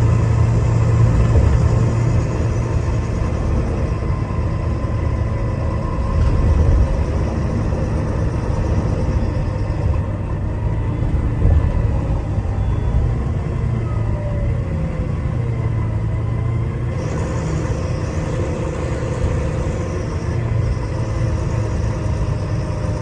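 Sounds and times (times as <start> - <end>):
bus engine rumbling: 0.0 - 23.0
faint whine: 0.0 - 23.0.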